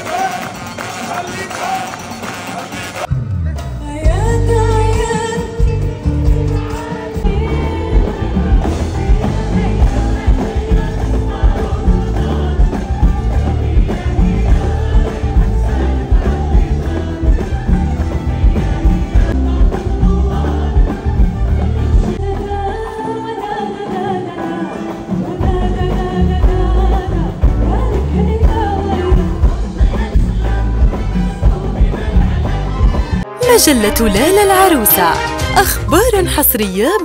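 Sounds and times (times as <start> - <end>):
live band with heavy beat: 0.0 - 37.0.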